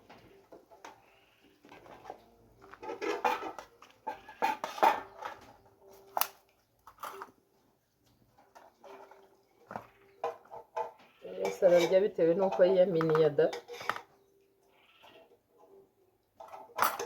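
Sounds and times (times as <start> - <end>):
dishes and utensils clattering: 0.0 - 7.4, 8.4 - 14.3, 16.4 - 17.0.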